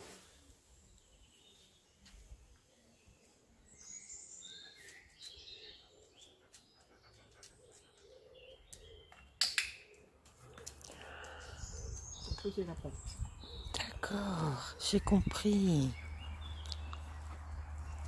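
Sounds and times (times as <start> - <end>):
birds chirping: 0.3 - 18.0.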